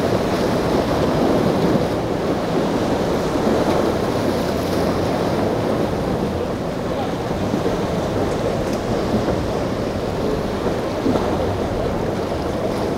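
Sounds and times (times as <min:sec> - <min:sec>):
low hum of boat engines: 0:00.0 - 0:12.9
surf washing against rocks: 0:00.0 - 0:12.9
wind buffeting microphone: 0:00.0 - 0:12.9.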